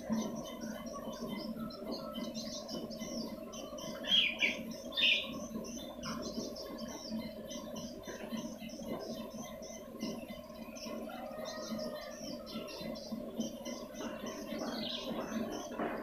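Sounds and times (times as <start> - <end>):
rapid high bird chirps: 0.0 - 16.0
steady low hum: 0.0 - 16.0.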